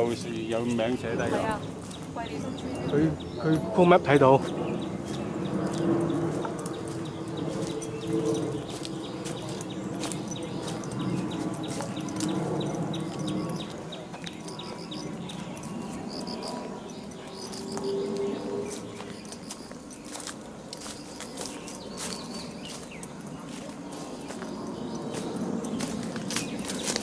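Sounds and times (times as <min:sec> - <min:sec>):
footsteps crunching on leaves: 0:04.4 - 0:27.0.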